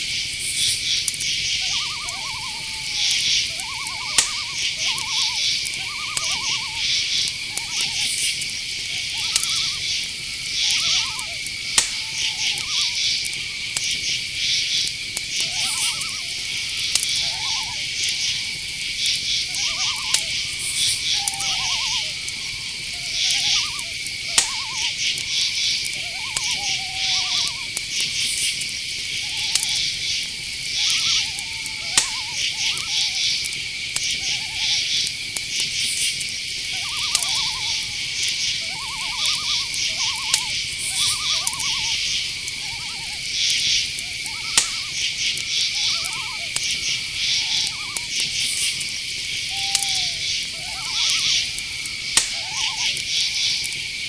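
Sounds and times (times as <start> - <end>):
cricket trill: 0.0 - 54.0
owl hooting: 0.0 - 54.0
pulsing insect chirps: 0.0 - 54.0.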